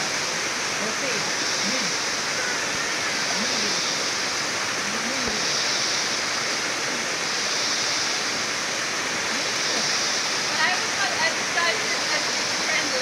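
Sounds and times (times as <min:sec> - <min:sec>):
rushing stream water: 0:00.0 - 0:13.0.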